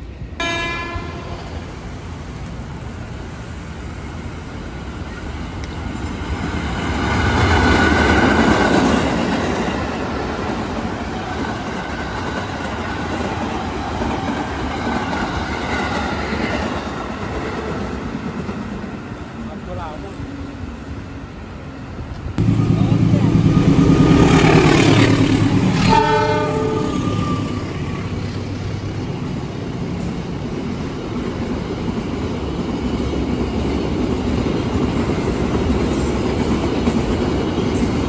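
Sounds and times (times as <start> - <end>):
electric train passing: 0.0 - 38.0.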